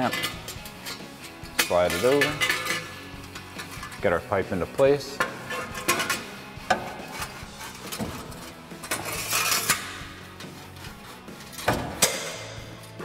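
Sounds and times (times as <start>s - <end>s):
background music: 0.0s - 13.0s
metal tailpipe clinking and scraping: 0.0s - 13.0s.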